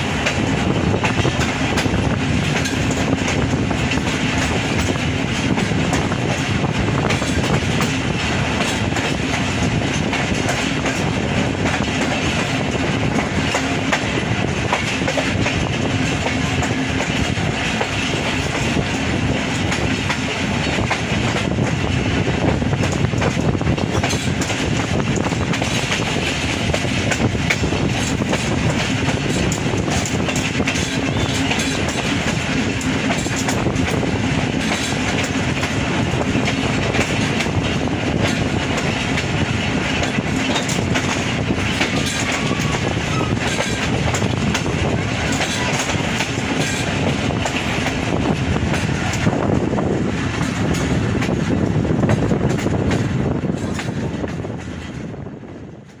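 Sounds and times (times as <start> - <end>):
clickety-clack over rail joints: 0.0 - 56.0
train wheels rushing on rails: 0.0 - 56.0.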